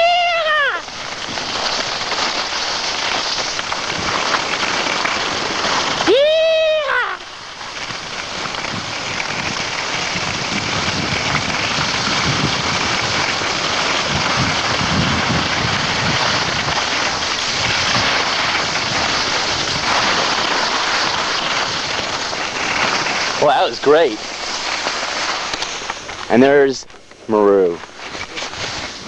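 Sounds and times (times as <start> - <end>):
wind across microphone: 0.0 - 24.5, 28.0 - 29.0
skis sliding on snow: 0.0 - 29.0.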